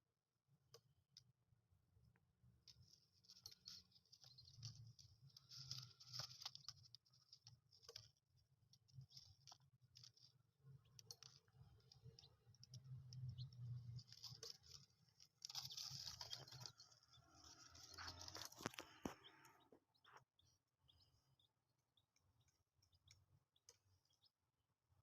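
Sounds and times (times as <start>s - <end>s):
chicks peeping softly: 2.5s - 24.6s
chicks pecking clicks: 2.6s - 8.1s, 8.8s - 24.3s
chicks scratching: 2.6s - 24.3s.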